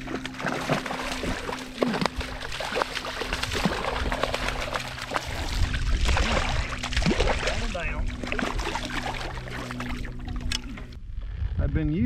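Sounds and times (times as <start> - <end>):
fish splashing at water surface: 0.0 - 10.6.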